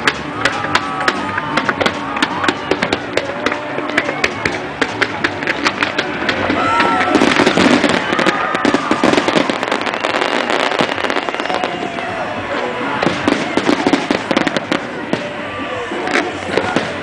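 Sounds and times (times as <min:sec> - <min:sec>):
fireworks crackling and popping: 0:00.0 - 0:17.0
spectators' voices: 0:00.0 - 0:17.0.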